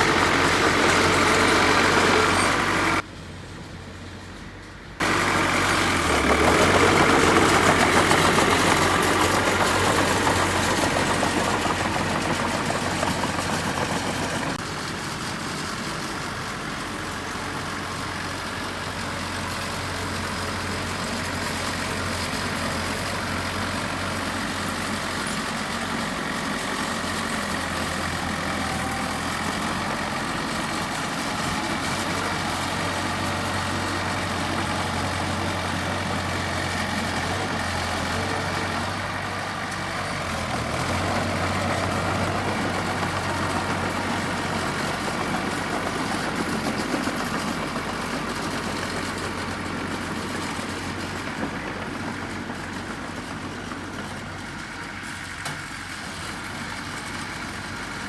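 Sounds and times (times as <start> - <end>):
heavy machinery engine running: 0.0 - 3.1, 4.4 - 58.0.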